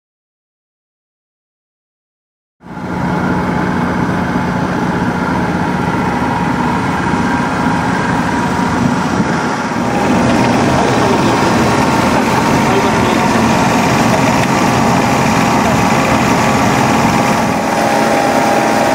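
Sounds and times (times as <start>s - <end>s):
engine running steadily: 2.6s - 18.9s.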